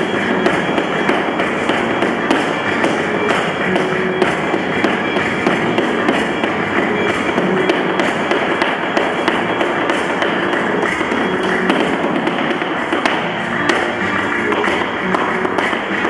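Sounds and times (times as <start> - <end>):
flamenco music: 0.0 - 16.0
shoes tapping on floor: 0.0 - 16.0.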